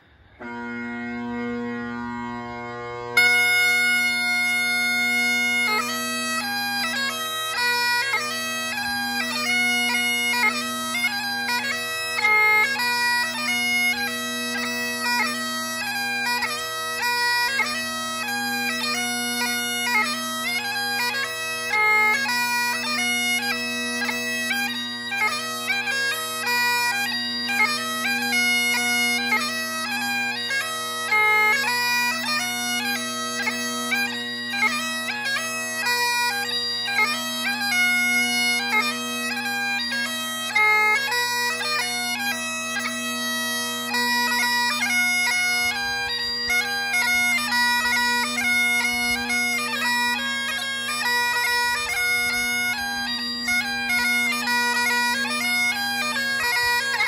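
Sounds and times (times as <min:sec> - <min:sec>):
bagpipe chanter tune: 0:00.0 - 0:57.0
bagpipe drones: 0:00.0 - 0:57.0.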